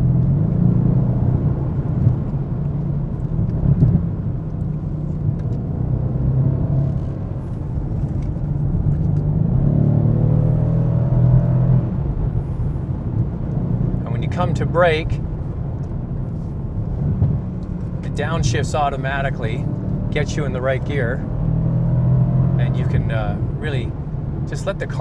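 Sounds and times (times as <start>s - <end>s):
car engine accelerating hard: 0.0s - 15.8s, 16.4s - 25.0s.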